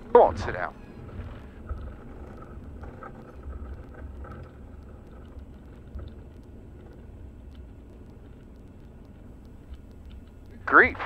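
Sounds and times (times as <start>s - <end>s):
aircraft engine rumble: 0.0s - 11.0s
wheels rolling on runway: 0.0s - 11.0s.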